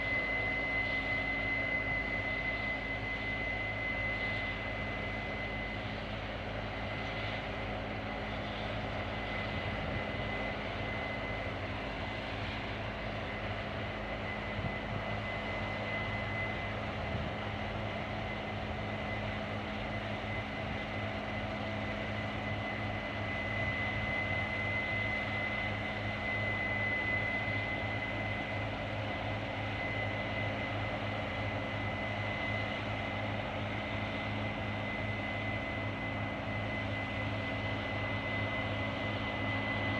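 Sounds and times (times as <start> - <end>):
combine harvester engine drone: 0.0 - 39.9
constant high whine: 0.0 - 39.9.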